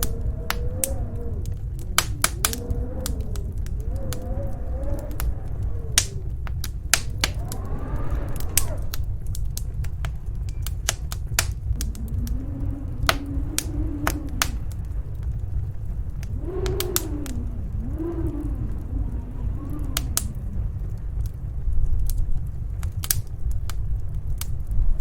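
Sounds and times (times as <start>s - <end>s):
howling storm wind: 0.0s - 25.0s
wood fire crackling: 0.0s - 25.0s.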